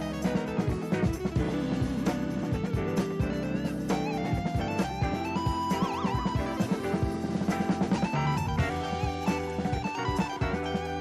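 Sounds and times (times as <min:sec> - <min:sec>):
melody of bending notes: 0:00.0 - 0:11.0
steady drum beat: 0:00.0 - 0:11.0.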